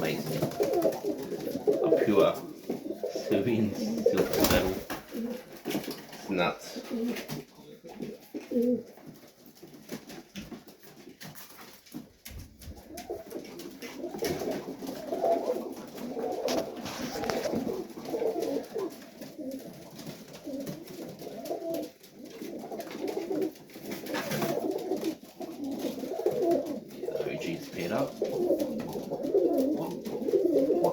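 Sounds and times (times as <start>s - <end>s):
pigeons cooing: 0.0s - 11.5s, 12.4s - 30.9s.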